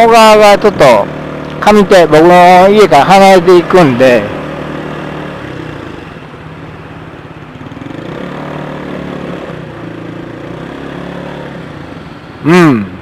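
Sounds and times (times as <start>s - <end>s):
road and wind noise: 0.0s - 13.0s
scooter engine running: 0.0s - 13.0s.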